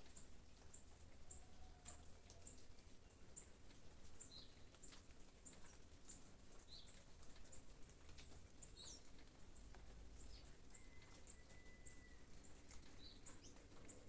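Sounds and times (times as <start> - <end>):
light rain: 0.0 - 14.0
raindrops tapping: 0.0 - 14.0
small birds chirping: 0.0 - 14.0.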